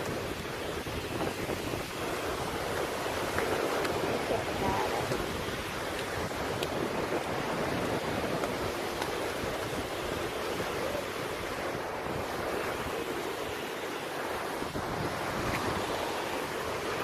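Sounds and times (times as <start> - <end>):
sea surf washing onto beach: 0.0 - 17.0
wind buffeting microphone: 0.0 - 17.0.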